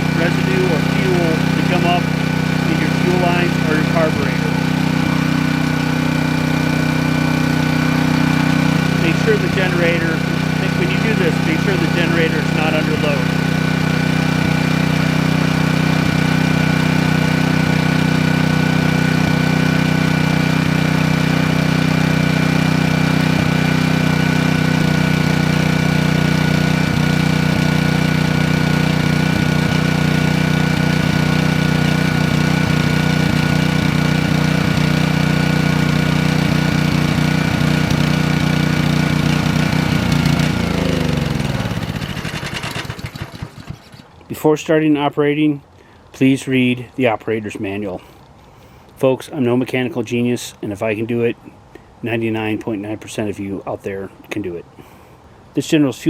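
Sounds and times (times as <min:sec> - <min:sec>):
generator engine running: 0:00.0 - 0:46.1.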